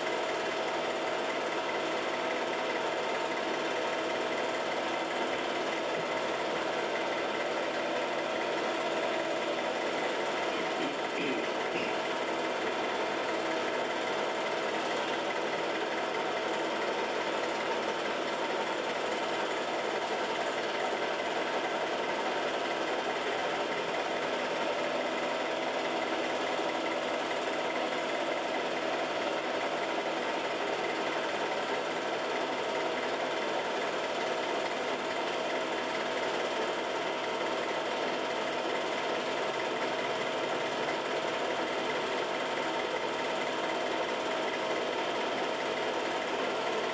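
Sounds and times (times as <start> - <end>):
film projector whirring: 0.0 - 46.9.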